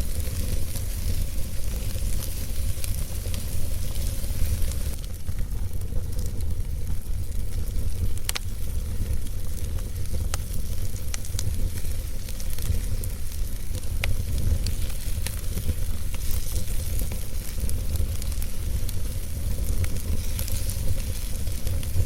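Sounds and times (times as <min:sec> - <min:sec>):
fire rumbling and hissing: 0:00.0 - 0:22.0
logs crackling and popping: 0:00.0 - 0:22.0.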